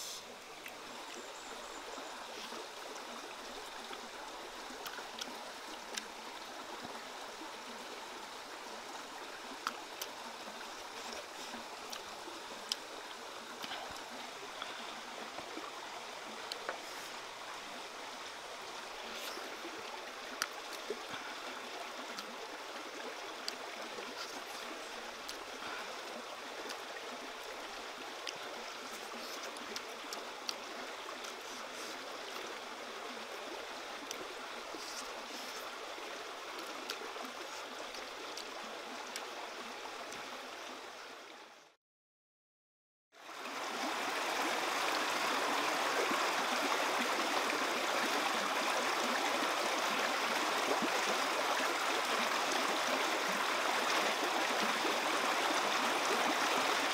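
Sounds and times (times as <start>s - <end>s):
stream water running: 0.0s - 41.8s, 43.1s - 56.9s.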